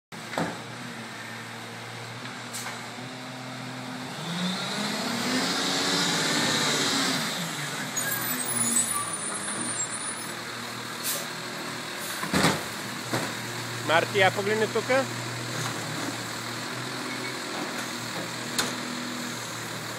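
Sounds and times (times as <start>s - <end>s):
garbage truck engine revving: 0.6s - 19.9s.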